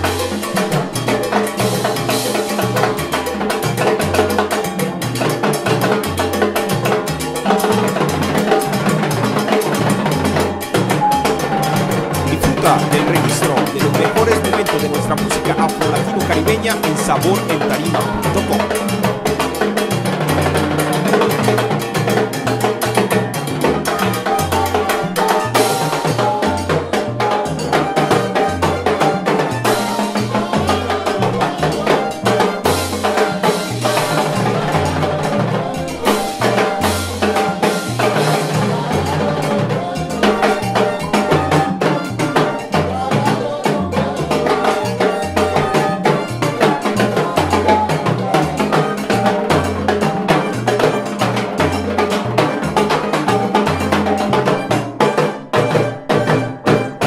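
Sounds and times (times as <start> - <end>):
salsa band playing: 0.0 - 57.0.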